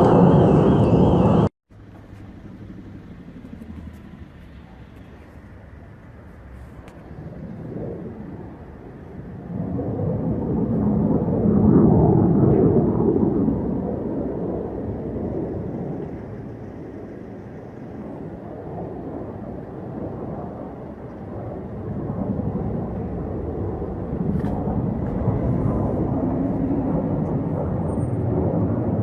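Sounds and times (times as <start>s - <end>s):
jet engine rumble overhead: 0.0s - 29.0s.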